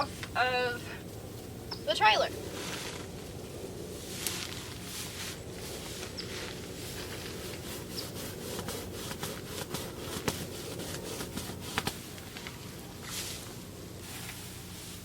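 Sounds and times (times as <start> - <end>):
dry hay rustling and crackling: 0.0 - 15.0.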